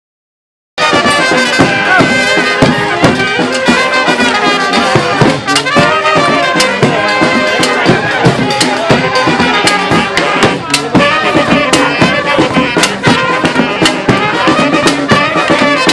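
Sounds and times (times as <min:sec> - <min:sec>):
brass band playing: 0:00.8 - 0:15.9.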